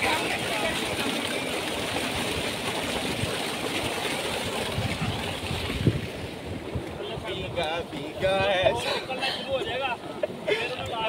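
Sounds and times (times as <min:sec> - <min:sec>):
water gushing into a tank: 0:00.0 - 0:11.0.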